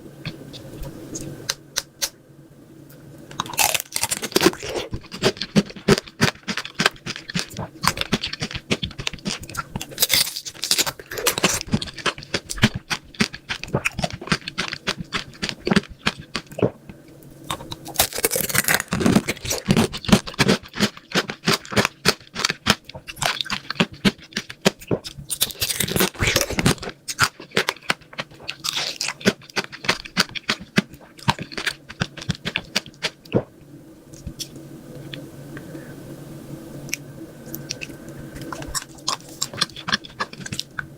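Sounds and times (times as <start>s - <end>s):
faint steady hum: 0.0s - 40.9s
crunchy food chewing: 3.3s - 33.5s, 36.9s - 40.9s.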